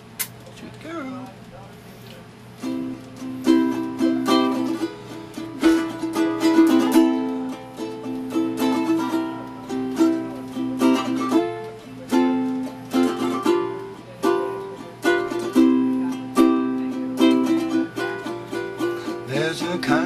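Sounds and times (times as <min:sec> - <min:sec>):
ukulele strumming: 0:02.6 - 0:20.0.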